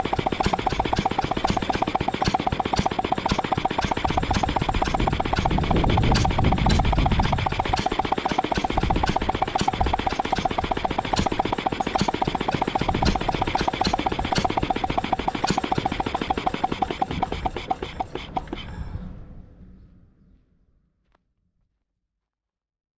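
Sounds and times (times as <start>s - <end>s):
air compressor engine running: 0.0s - 18.8s.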